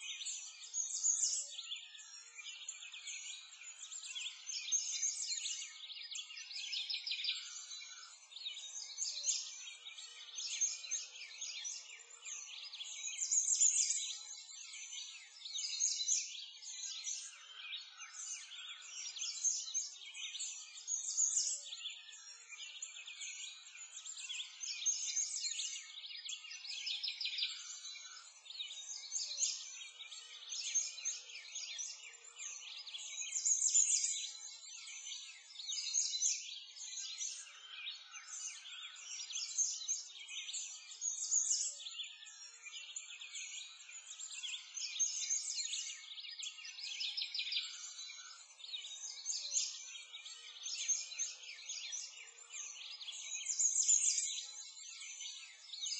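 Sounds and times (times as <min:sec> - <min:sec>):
songbirds chirping and trilling: 0:00.0 - 0:55.9.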